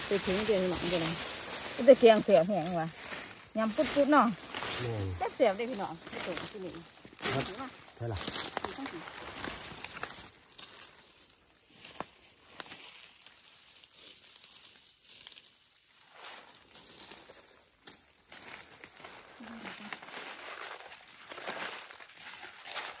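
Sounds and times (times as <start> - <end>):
dry leaf litter rustling and crackling: 0.0 - 23.0.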